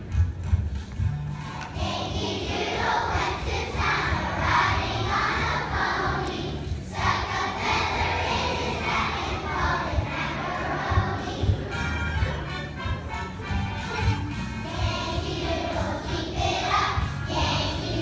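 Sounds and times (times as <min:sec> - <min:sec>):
children's choir singing: 0:01.7 - 0:18.0.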